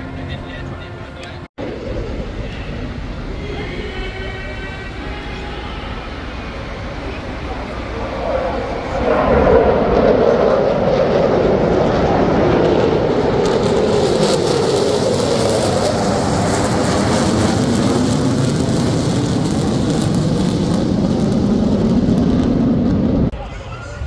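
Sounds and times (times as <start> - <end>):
military aircraft flying past: 0.0 - 23.3.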